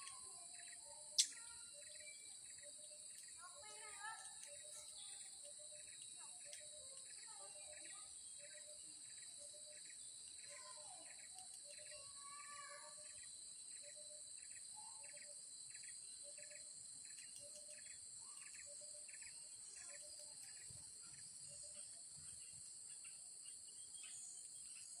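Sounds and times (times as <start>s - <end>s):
bird calls: 0.0s - 25.0s.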